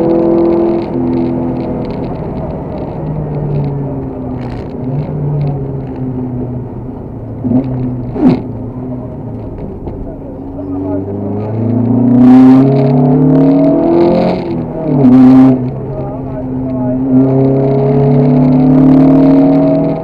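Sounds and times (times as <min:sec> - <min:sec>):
rally car engine running: 0:00.0 - 0:20.0.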